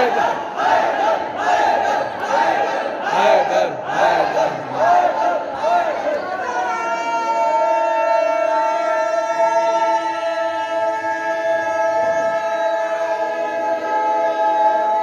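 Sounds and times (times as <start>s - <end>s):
voices chanting held notes: 0.0s - 15.0s.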